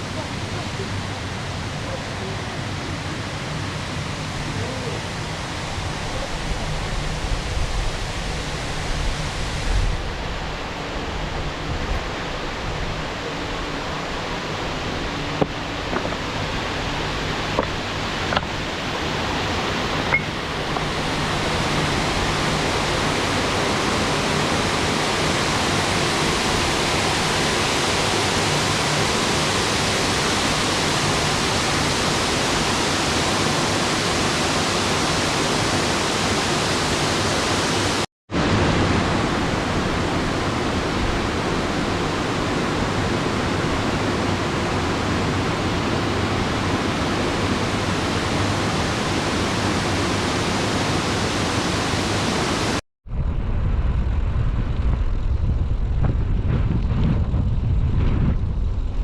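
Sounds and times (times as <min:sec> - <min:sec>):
running water rushing: 0:00.0 - 0:52.8.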